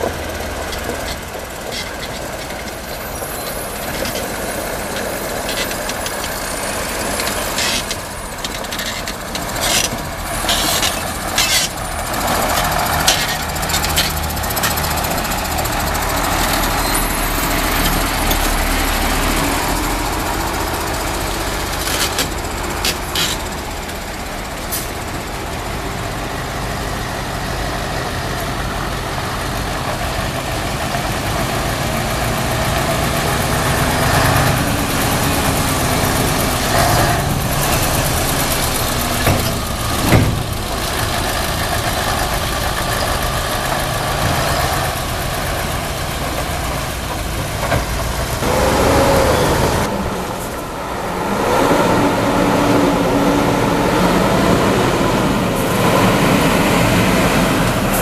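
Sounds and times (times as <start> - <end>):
truck diesel engines driving past: 0.0 - 58.0.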